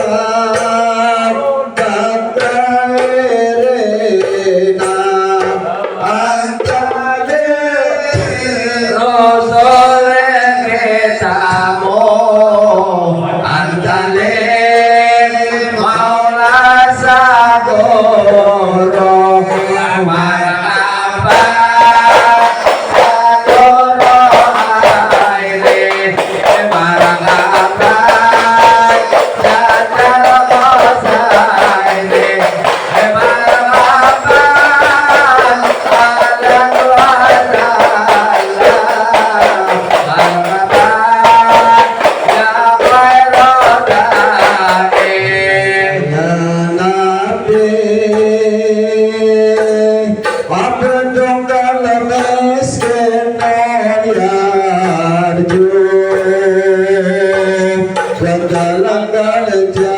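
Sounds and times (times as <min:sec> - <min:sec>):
man singing devotional song: 0:00.0 - 0:59.9
rhythmic accompaniment: 0:00.0 - 0:59.9.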